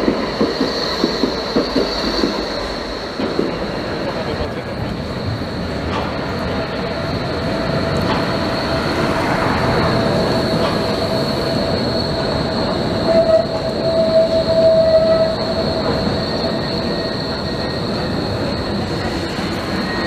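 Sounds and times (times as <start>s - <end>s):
tram running gear rumble: 0.0s - 20.0s
tram wheels squealing: 0.0s - 20.0s.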